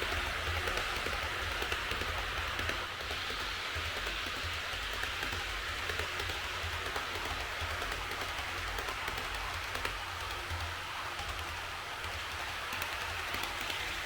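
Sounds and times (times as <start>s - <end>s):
model train whirring: 0.0s - 14.0s.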